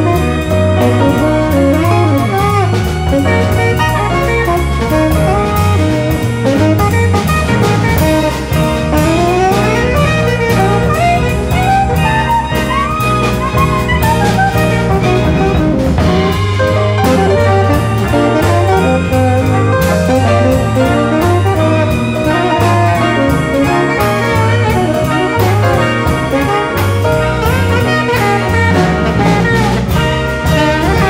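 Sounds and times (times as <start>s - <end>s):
drums: 0.0s - 31.0s
tenor saxophone solo: 0.0s - 31.0s
walking bass: 0.0s - 31.0s.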